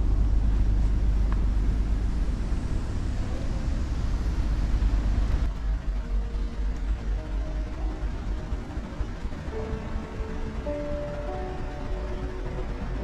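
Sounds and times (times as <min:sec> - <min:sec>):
hiss of ambient noise: 0:00.0 - 0:13.0
low rumble: 0:00.0 - 0:13.0.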